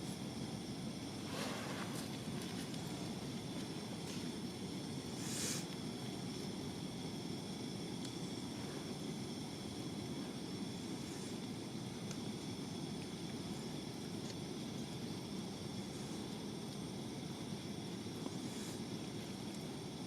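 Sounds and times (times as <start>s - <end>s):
campfire crackles: 0.0s - 20.0s.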